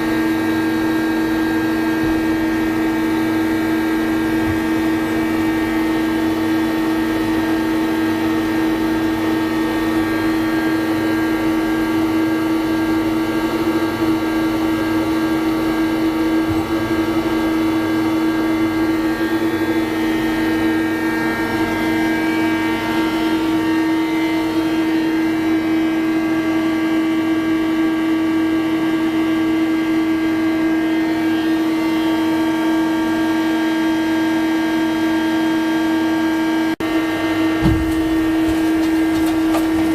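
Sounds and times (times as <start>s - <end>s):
lathe mechanical whine: 0.0s - 39.9s.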